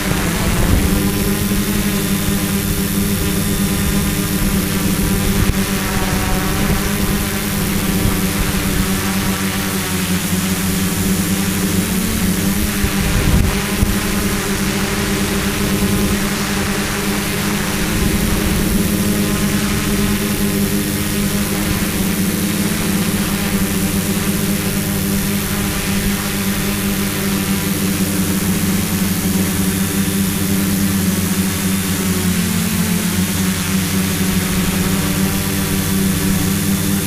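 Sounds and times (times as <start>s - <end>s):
drone propellers humming: 0.0s - 37.0s.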